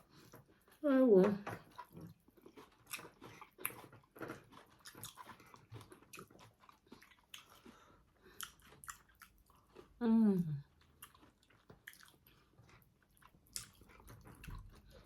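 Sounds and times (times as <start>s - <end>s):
person chewing: 0.0s - 0.8s, 1.6s - 15.0s.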